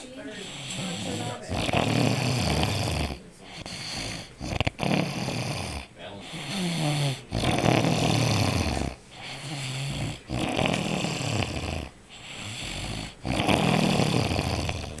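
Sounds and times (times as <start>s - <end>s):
low humming breath: 0.0s - 15.0s
man snoring: 0.4s - 15.0s.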